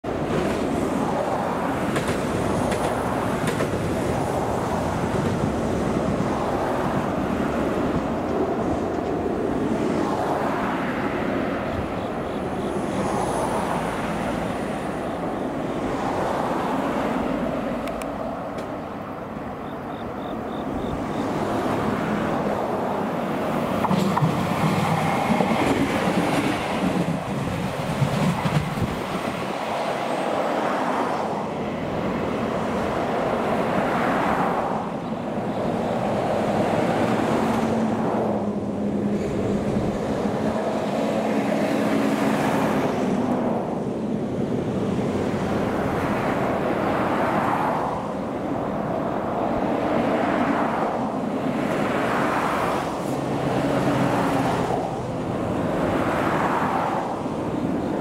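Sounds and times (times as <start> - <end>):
deep railcar engine sound: 0.0 - 58.0
railcar running on track: 0.0 - 58.0.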